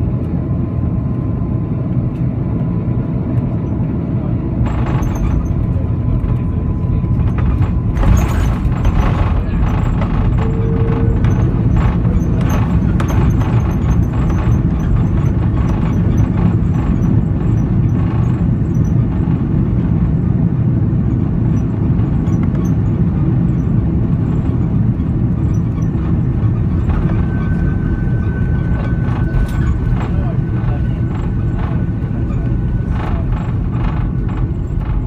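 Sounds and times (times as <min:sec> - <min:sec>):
engines and wheels rumbling: 0:00.0 - 0:35.0.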